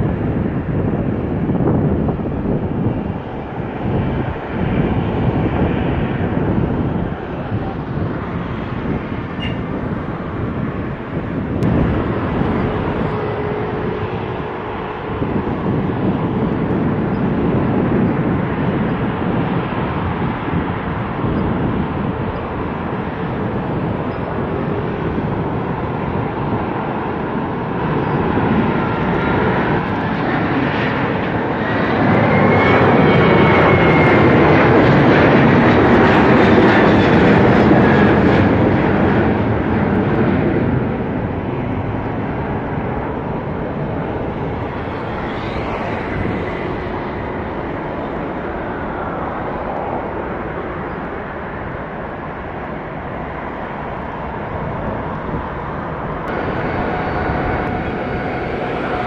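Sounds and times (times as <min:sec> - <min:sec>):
jet engine roar with whine: 0:00.0 - 0:59.0.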